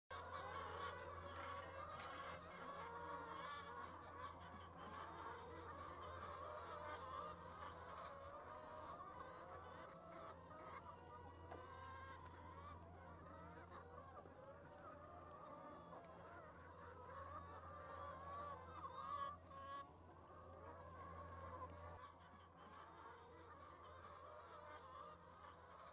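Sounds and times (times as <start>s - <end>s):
hens clucking: 0.1s - 25.9s.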